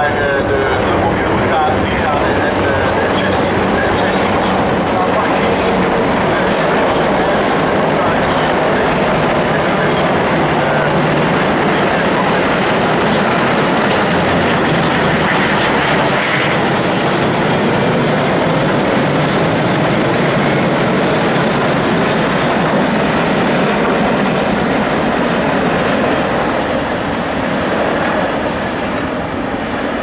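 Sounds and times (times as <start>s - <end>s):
military jet aircraft flying over: 0.0s - 30.0s
turboprop aircraft engine: 0.0s - 30.0s.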